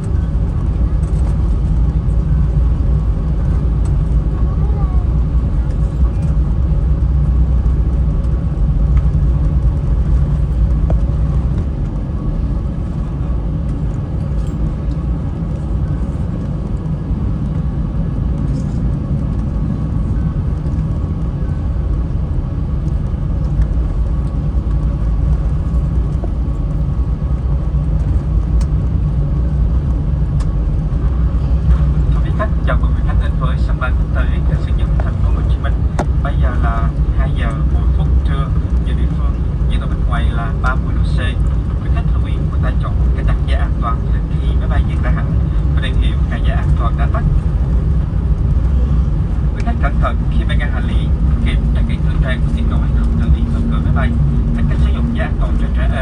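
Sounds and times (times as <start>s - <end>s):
airplane engine rumble in cabin: 0.0s - 56.0s.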